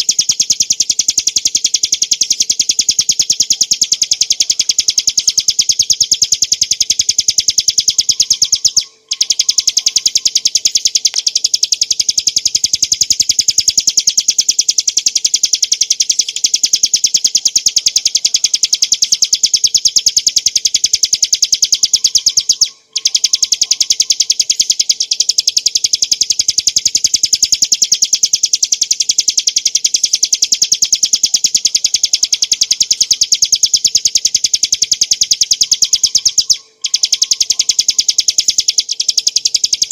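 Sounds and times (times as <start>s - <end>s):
bird singing fast trill: 0.0s - 39.9s.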